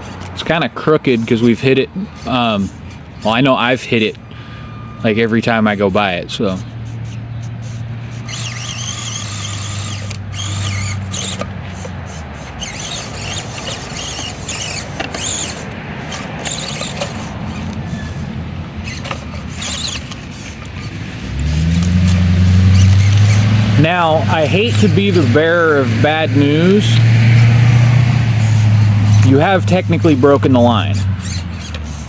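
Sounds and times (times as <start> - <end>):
electric motor and gears whining: 0.0 - 32.0.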